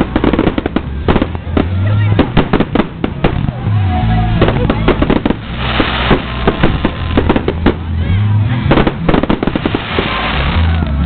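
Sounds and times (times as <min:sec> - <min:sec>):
fireworks bangs and crackling: 0:00.0 - 0:11.0
music: 0:00.0 - 0:11.0.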